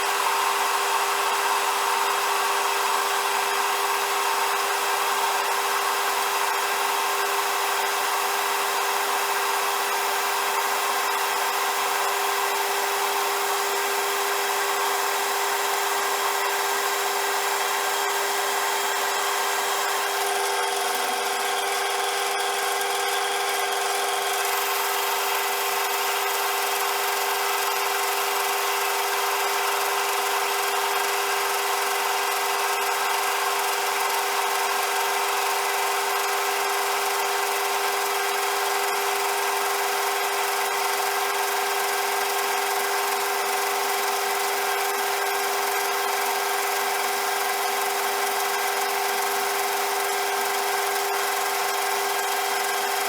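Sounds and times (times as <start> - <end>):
metal lathe motor whine: 0.0 - 53.0.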